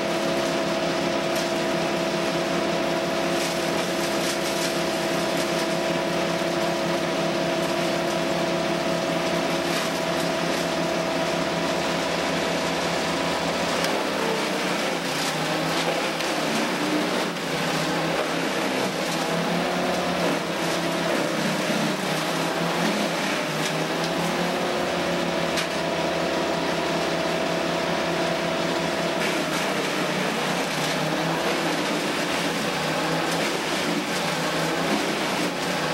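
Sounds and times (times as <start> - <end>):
machine motor running: 0.0 - 35.9.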